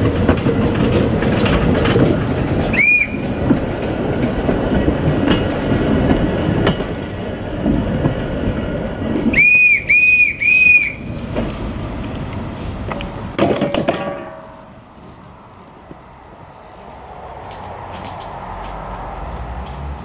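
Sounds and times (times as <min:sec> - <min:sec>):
wagon wheels clattering over rail joints: 0:00.0 - 0:20.0.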